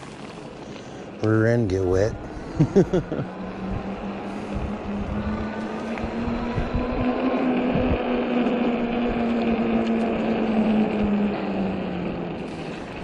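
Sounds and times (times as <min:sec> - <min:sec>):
electric bike motor humming: 0:00.0 - 0:13.0
wind: 0:00.0 - 0:13.0.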